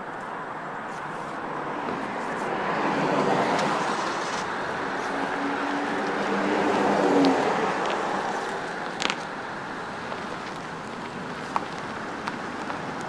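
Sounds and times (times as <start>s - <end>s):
car passing by: 1.0s - 13.0s.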